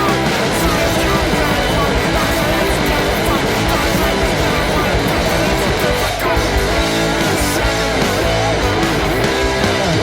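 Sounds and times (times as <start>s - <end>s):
loud rock music with guitars: 0.0s - 10.0s.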